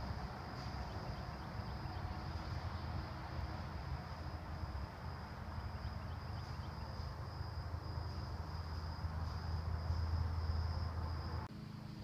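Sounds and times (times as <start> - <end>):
high-pitched insect trill: 0.0 - 11.5.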